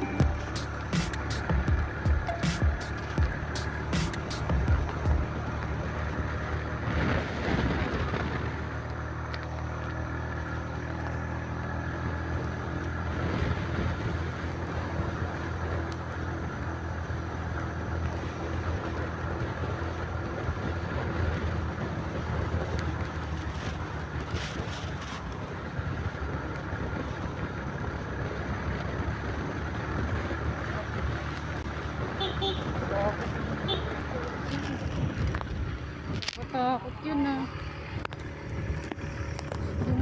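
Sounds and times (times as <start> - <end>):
motorcycle engine running: 0.0 - 40.0
road and wind noise: 0.0 - 40.0.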